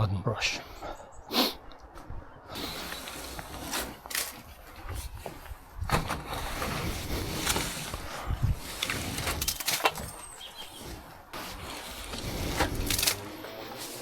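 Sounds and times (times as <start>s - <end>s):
brush bristles scraping roof: 2.5s - 14.0s.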